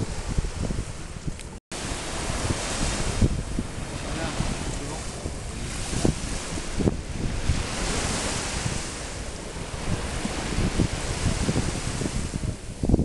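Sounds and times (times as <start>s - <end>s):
small waves washing onto beach: 0.0s - 13.0s
wind buffeting microphone: 0.0s - 13.0s.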